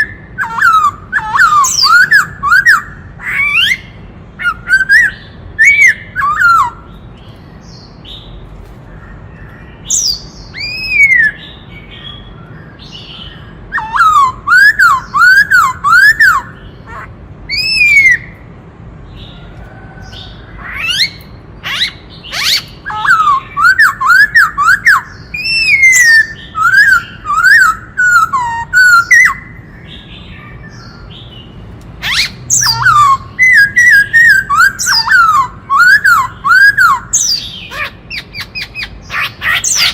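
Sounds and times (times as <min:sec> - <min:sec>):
bird singing whistled notes: 0:00.0 - 0:08.4, 0:09.0 - 0:16.7, 0:17.5 - 0:18.4, 0:20.8 - 0:39.9
sharp high bird calls: 0:00.0 - 0:18.5, 0:19.2 - 0:39.9.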